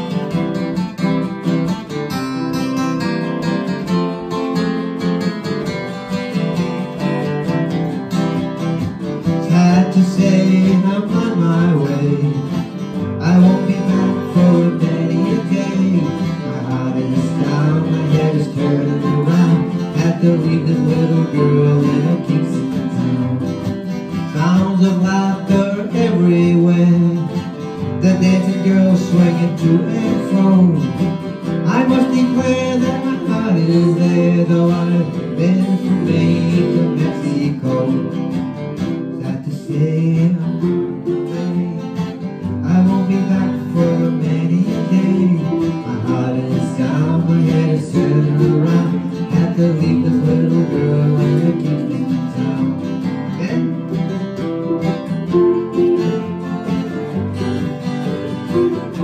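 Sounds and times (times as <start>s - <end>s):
acoustic band playing folk song: 0.0s - 59.0s
strummed acoustic guitars: 0.0s - 59.0s.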